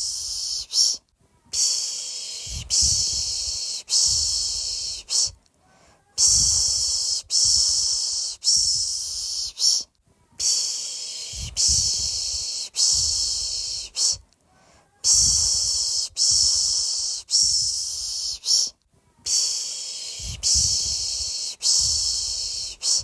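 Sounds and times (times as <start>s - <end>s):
person shushing a baby: 0.0s - 23.0s.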